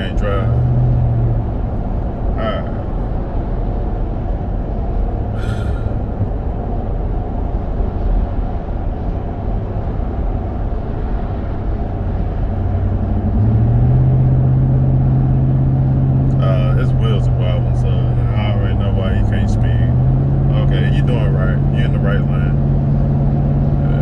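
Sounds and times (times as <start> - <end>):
road noise inside car cabin: 0.0 - 24.0.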